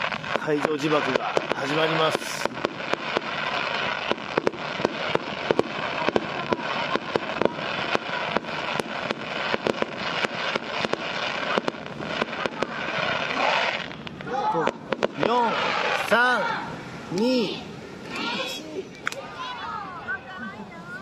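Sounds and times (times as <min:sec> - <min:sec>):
fireworks sharp bangs: 0:00.0 - 0:19.8
fireworks crackling: 0:00.0 - 0:21.0.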